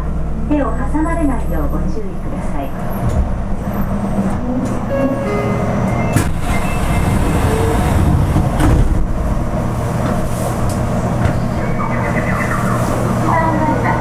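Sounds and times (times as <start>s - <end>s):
train rumble with low hum: 0.0s - 14.0s.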